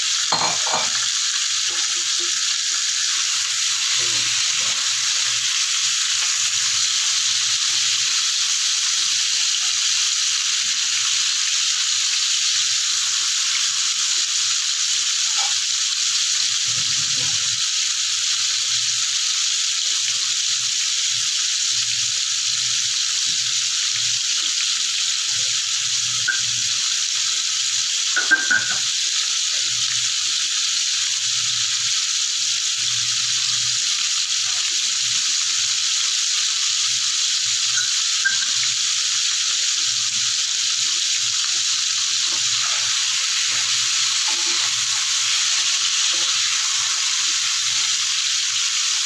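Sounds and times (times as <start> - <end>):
chicken sizzling in hot oil: 0.0 - 49.0.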